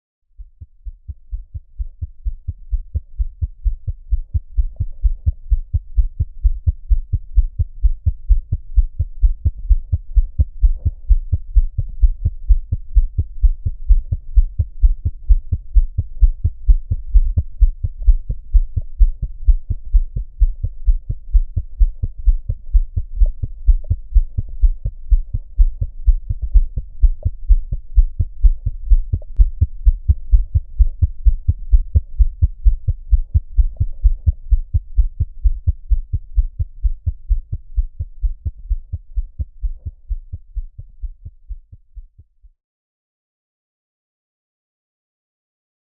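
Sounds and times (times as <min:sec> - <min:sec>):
fetal heartbeat whooshing pulses: 0:00.4 - 0:42.5.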